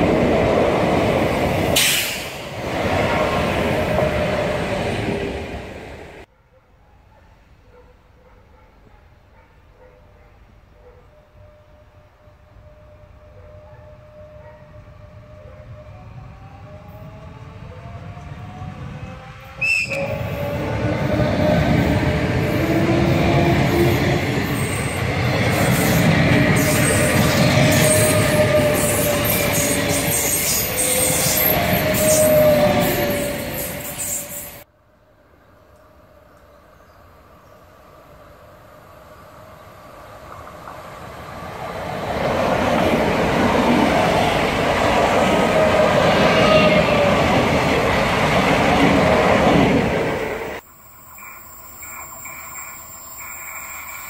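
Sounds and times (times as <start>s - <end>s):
electric train passing: 0.0s - 6.3s, 12.2s - 54.0s
wheels rumbling on rail: 0.0s - 6.3s, 14.0s - 34.7s, 35.4s - 54.0s.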